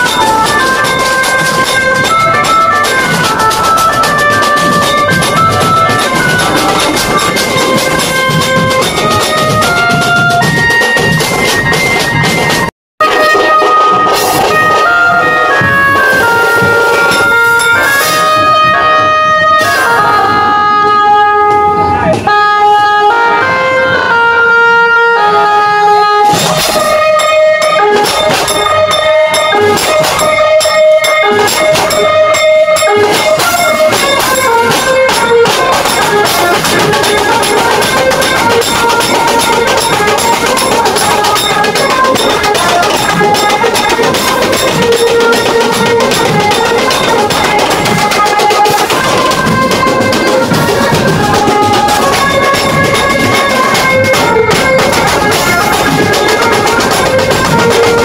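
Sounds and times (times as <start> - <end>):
drum kit and cymbals beat: 0.0 - 21.5, 26.0 - 58.0
amplified melody: 0.0 - 58.0
band playing loud: 0.0 - 58.0.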